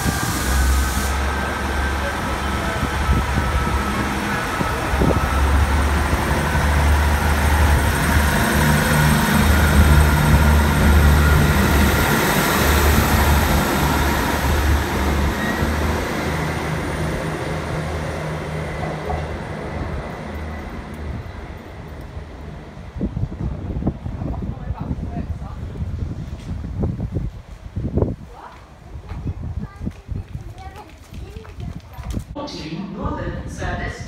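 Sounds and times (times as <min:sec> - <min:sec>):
train wheels rumbling: 0:00.0 - 0:28.2.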